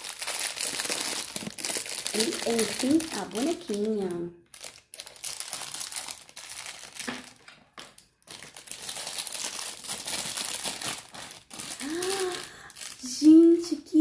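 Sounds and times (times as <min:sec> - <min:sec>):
plastic wrapper crinkling: 0:00.0 - 0:13.8.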